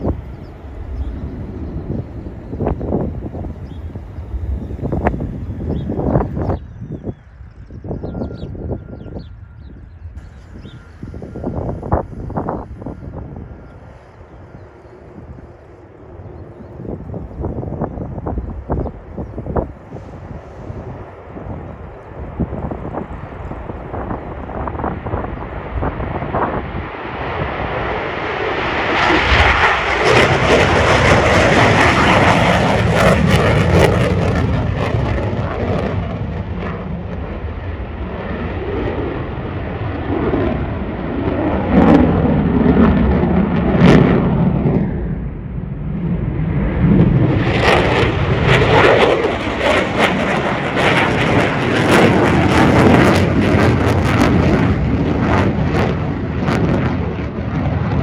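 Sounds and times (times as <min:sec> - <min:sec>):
jet engine roar with crackle: 0:00.0 - 0:58.0.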